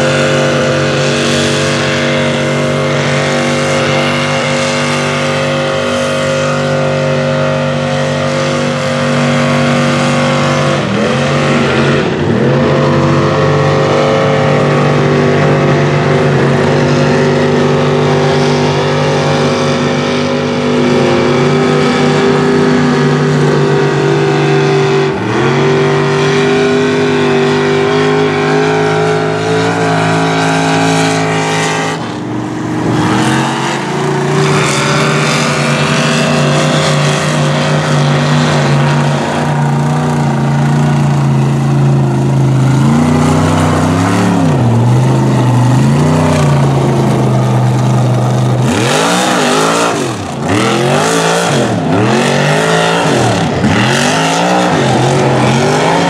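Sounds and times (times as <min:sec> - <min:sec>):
truck engine revving high: 0:00.0 - 0:56.0.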